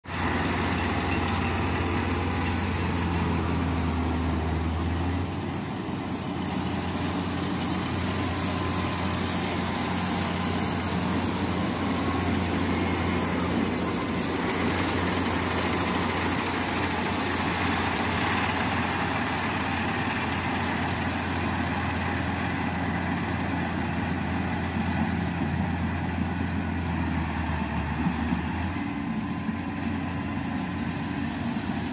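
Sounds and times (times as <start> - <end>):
diesel engine humming: 0.0 - 31.9.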